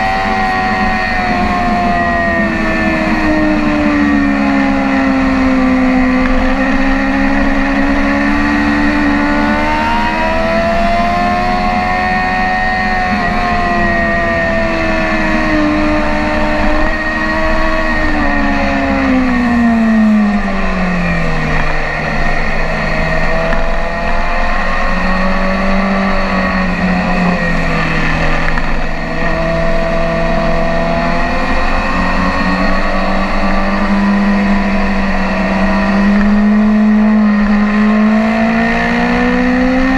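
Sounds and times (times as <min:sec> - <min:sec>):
motorcycle engine revving at speed: 0:00.0 - 0:39.9.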